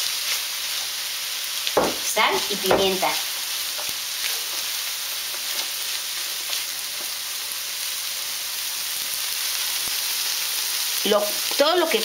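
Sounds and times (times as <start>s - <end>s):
sauce sizzling in skillet: 0.0s - 12.0s.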